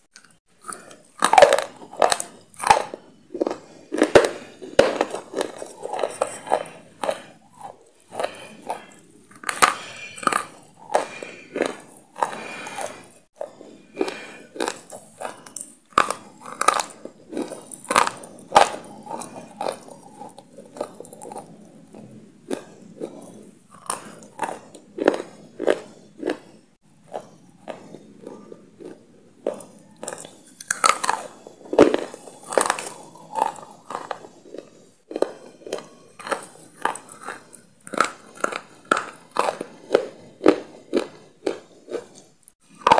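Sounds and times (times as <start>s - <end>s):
chewing crunchy food: 0.0s - 42.9s.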